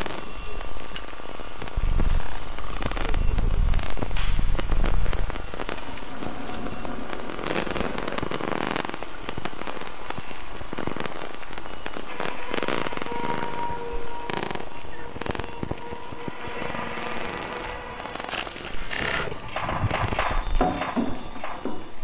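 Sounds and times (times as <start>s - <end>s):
dense crackling and hissing: 0.0s - 22.0s.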